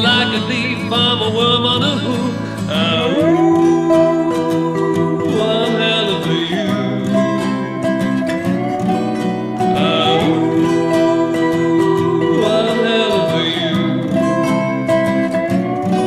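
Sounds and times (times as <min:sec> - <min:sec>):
man singing howled notes: 0:00.0 - 0:07.8, 0:09.5 - 0:14.7
resonator guitar: 0:00.0 - 0:16.0
strummed acoustic guitar: 0:00.0 - 0:16.0.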